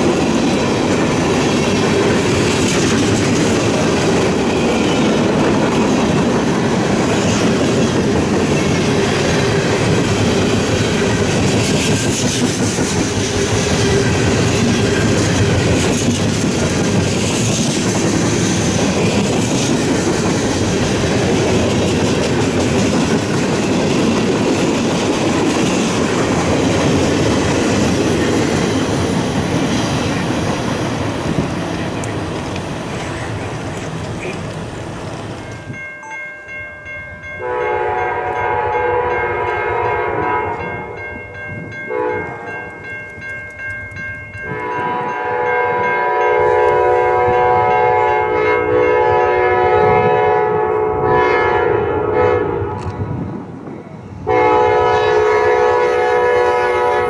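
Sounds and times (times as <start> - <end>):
train wheels rumbling: 0.0 - 35.9, 37.8 - 57.0.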